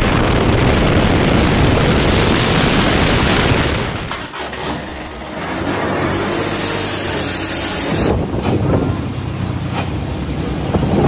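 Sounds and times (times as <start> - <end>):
truck road noise passing: 0.1 - 11.0.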